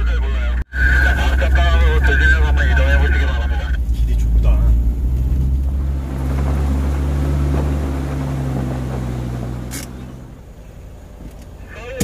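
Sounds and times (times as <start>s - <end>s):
off-road vehicle engine running: 0.0s - 12.0s
road noise: 0.0s - 12.0s.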